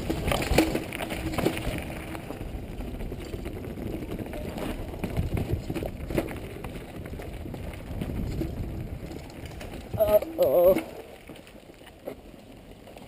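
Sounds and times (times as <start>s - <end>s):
bike rattling: 0.0s - 13.0s
tyres rumbling over dirt: 0.0s - 13.0s.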